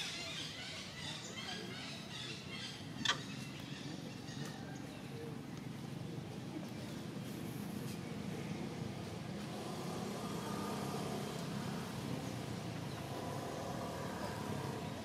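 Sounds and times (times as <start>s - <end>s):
engine rumbling: 0.6s - 15.0s.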